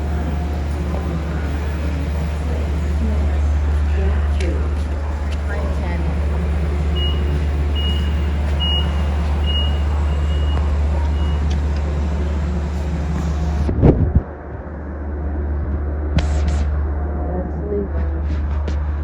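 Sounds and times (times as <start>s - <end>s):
diesel locomotive engine drone: 0.0s - 16.1s.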